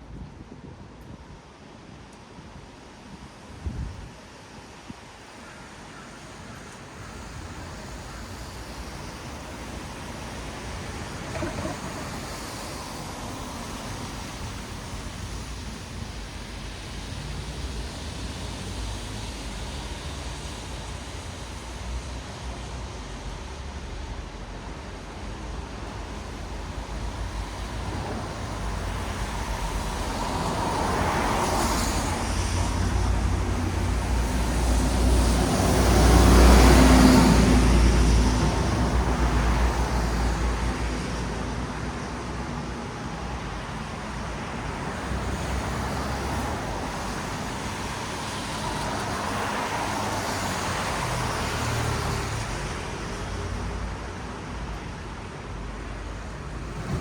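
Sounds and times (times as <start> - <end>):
tyres hissing on wet road: 0.6 - 57.0
vehicles passing: 7.0 - 57.0.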